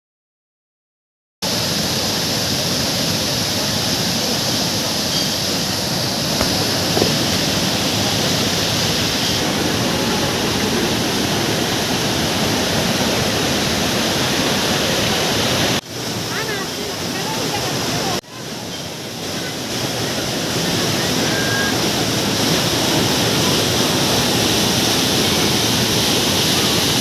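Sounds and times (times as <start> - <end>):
waterfall rushing: 1.4 - 27.0.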